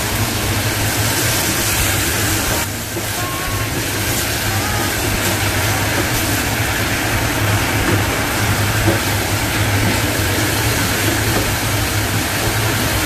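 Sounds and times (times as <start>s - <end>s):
extractor fan humming: 0.0s - 13.0s
food sizzling in a frying pan: 0.0s - 13.0s.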